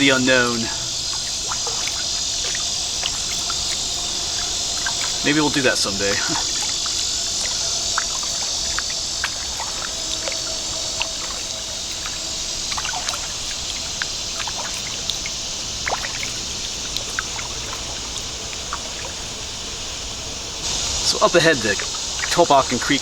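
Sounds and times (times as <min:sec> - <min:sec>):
high-pitched insect chorus: 0:00.0 - 0:23.0
water dripping from paddle: 0:00.0 - 0:23.0.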